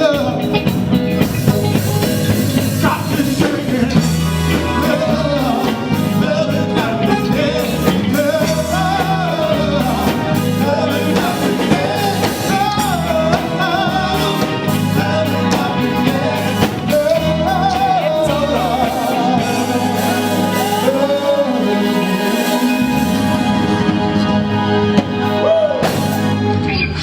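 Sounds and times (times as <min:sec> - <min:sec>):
live band of keyboards and guitar: 0:00.0 - 0:27.0
person singing with vibrato: 0:02.6 - 0:27.0.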